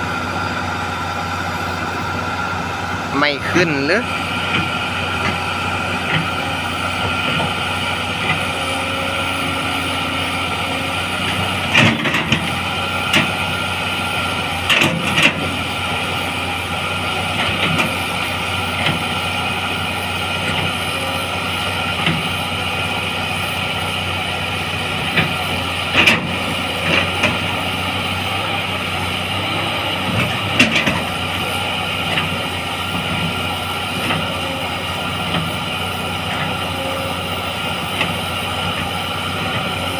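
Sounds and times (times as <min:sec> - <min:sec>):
excavator diesel engine running: 0:00.0 - 0:39.9
hydraulic whine: 0:00.0 - 0:39.9.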